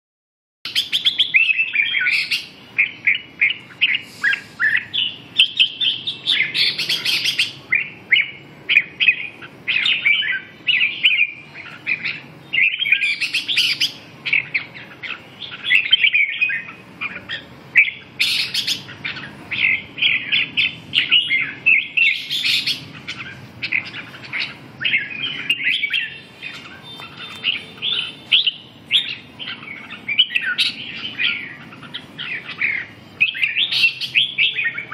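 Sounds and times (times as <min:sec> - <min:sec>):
birds chirping and warbling: 0:00.7 - 0:34.9.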